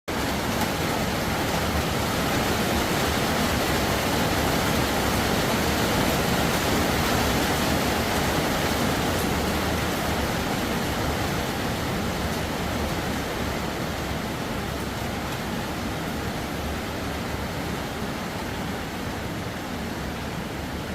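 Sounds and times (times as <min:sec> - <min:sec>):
rain falling steadily: 0:00.1 - 0:20.9.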